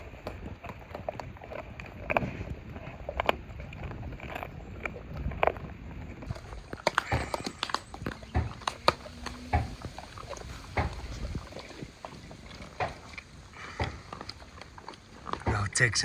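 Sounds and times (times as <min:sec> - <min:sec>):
bones cracking: 0:00.0 - 0:16.0
dogs chewing meat and bones: 0:00.0 - 0:16.0.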